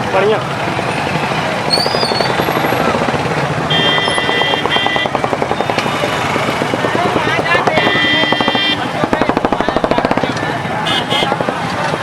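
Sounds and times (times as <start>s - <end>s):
helicopter rotor beating: 0.0s - 12.0s
high steady whine: 1.5s - 12.0s.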